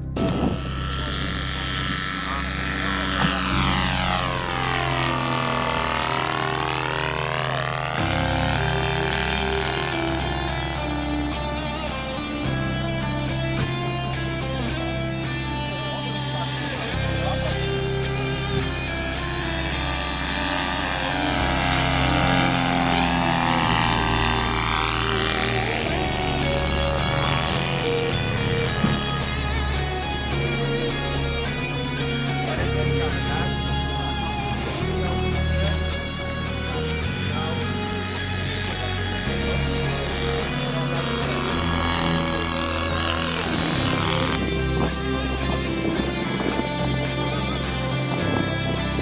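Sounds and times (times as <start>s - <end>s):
model airplane engine flying past: 0.0s - 49.0s
music: 0.0s - 49.0s.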